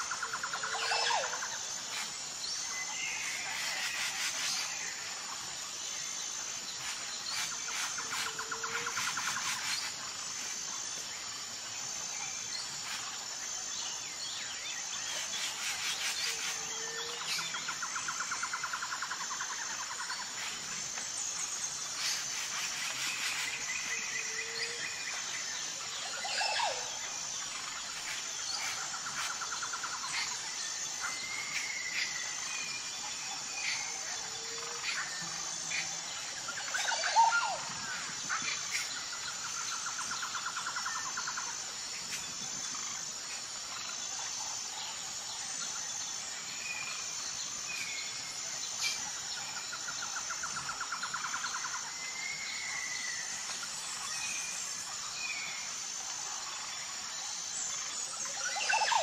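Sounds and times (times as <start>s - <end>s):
jungle birds calling and chirping: 0.0s - 59.0s.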